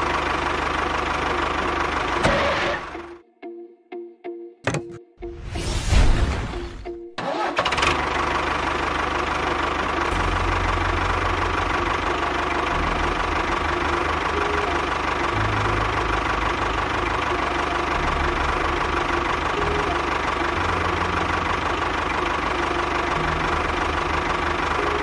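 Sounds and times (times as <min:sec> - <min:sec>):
engine starting and idling: 0:00.0 - 0:03.2, 0:07.1 - 0:25.0.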